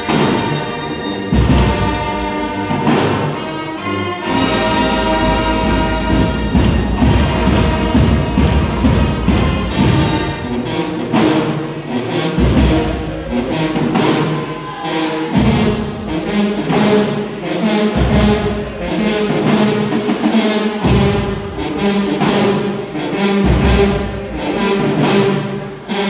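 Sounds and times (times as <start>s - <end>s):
marching band playing loudly: 0.0s - 26.0s.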